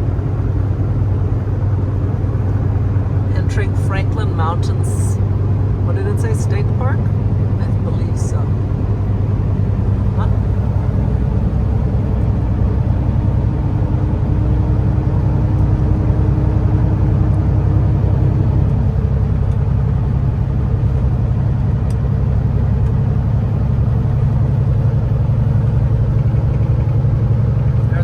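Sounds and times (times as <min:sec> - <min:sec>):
road noise: 0:00.0 - 0:28.0
truck diesel engine droning: 0:00.0 - 0:28.0.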